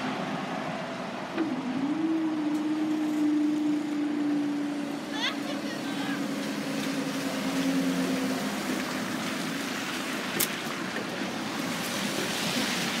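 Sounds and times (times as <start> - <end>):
low engine hum: 0.0 - 13.0
traffic hiss on wet road: 0.0 - 13.0.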